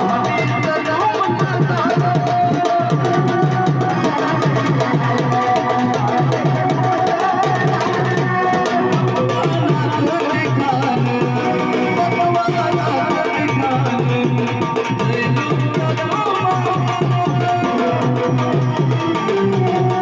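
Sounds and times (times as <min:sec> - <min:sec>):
hand drums rhythm: 0:00.0 - 0:20.0.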